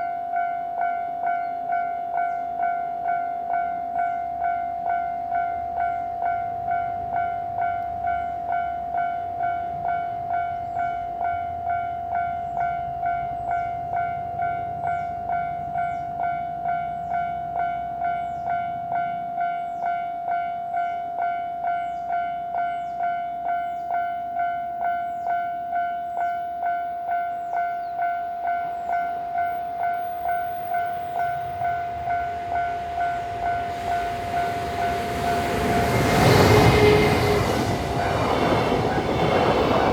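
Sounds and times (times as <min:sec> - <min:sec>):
level-crossing warning bell: 0:00.0 - 0:39.9.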